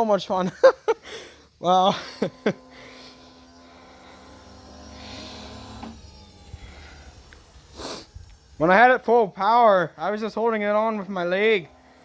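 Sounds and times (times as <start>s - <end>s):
faint high whine: 0.9s - 12.0s
model jet turbine whirring: 1.0s - 12.0s.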